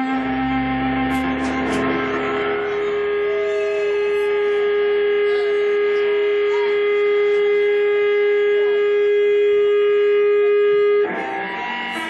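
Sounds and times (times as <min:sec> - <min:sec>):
droning electric guitar note: 0:00.0 - 0:12.0.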